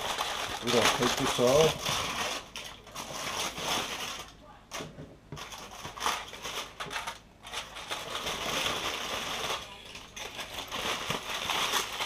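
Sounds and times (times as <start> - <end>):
aluminum foil crinkling: 0.0 - 12.0.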